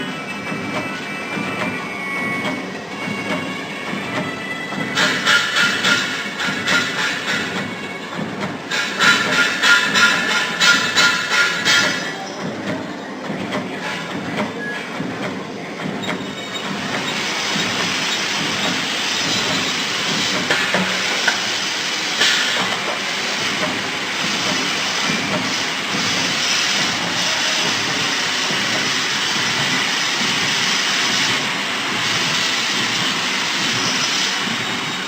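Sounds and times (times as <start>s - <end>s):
machine hissing and clattering: 2.4s - 35.0s.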